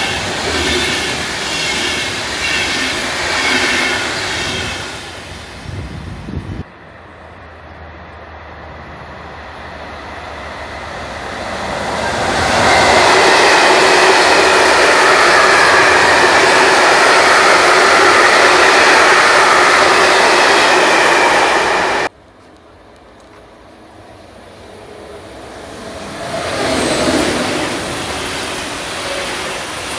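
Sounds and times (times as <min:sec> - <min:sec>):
freight train passing: 0:00.0 - 0:29.9.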